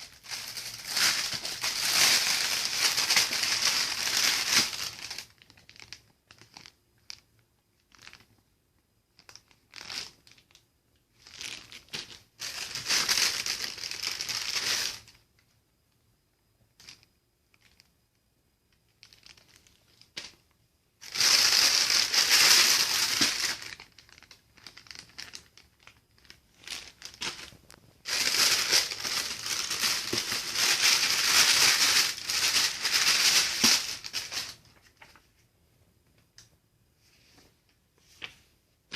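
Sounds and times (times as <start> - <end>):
packaging crinkling and rustling: 0.0 - 8.4, 9.1 - 15.2, 18.8 - 35.5.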